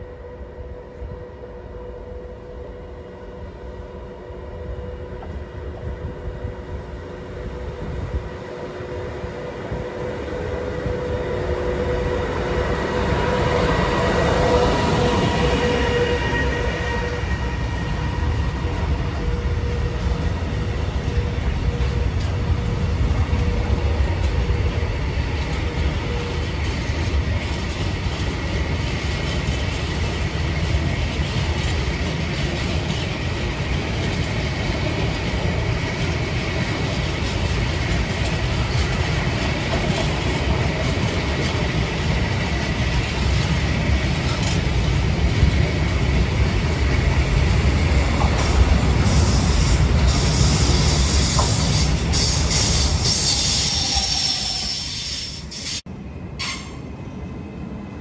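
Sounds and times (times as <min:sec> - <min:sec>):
electric locomotive humming: 0:00.0 - 0:58.0.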